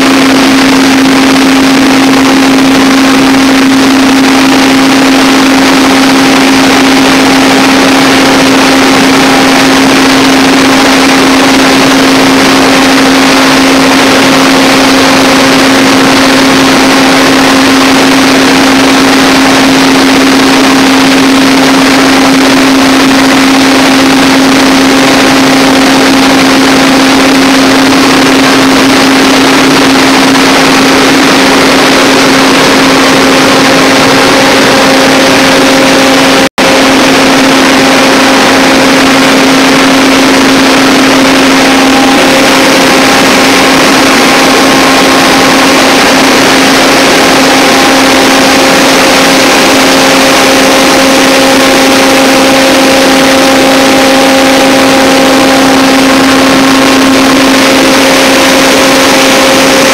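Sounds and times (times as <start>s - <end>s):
diesel generator running: 0.0s - 59.9s
steady hum: 0.0s - 59.9s.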